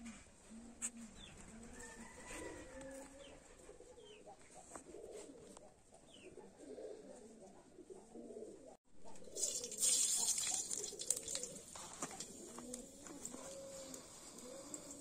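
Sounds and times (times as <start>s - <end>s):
pigeon cooing: 0.0s - 15.0s.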